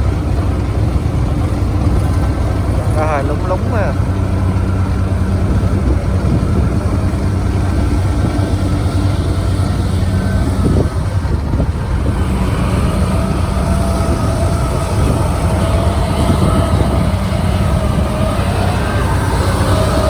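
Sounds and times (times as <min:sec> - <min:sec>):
combine harvester diesel drone: 0:00.0 - 0:20.0
machinery whine: 0:00.0 - 0:20.0.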